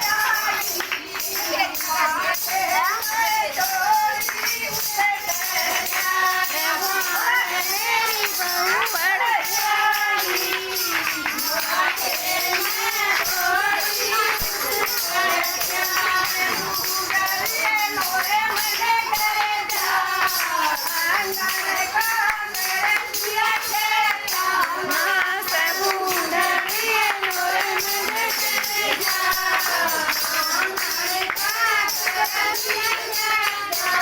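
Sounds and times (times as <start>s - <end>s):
jingling hand percussion: 0.0s - 34.0s
person singing folk song: 0.0s - 34.0s.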